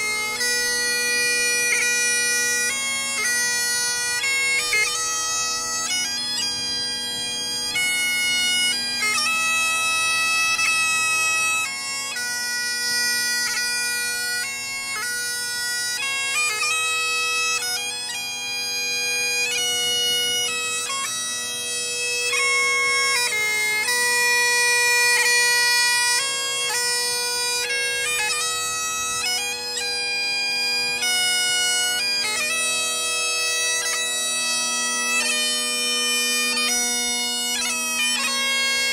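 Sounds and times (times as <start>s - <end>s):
bagpipes playing a melody: 0.0s - 38.9s.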